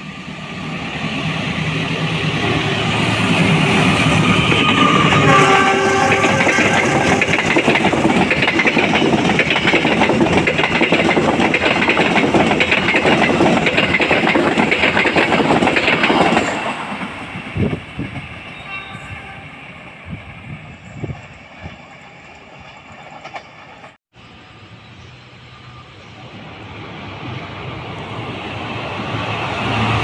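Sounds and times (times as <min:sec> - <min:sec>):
train wheels on rails: 0:00.0 - 0:30.0.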